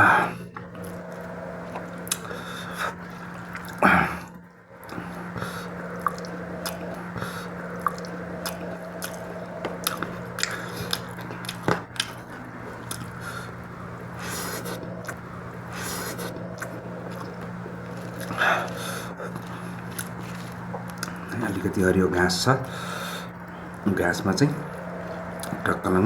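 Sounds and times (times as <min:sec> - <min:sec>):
steady low hum: 0:00.0 - 0:26.0
wet chewing mouth sounds: 0:00.4 - 0:21.5.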